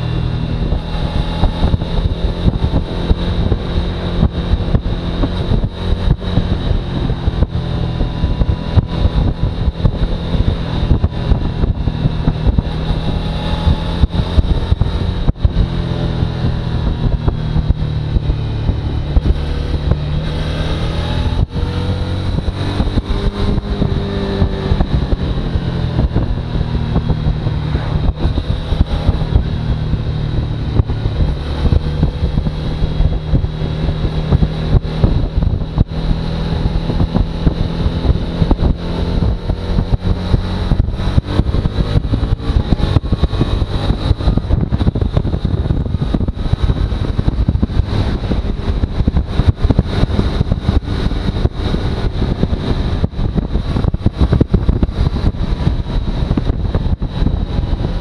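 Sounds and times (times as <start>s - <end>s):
microphone crackles: 0.0s - 58.0s
motorcycle engine running: 0.0s - 58.0s
wind noise: 0.0s - 58.0s.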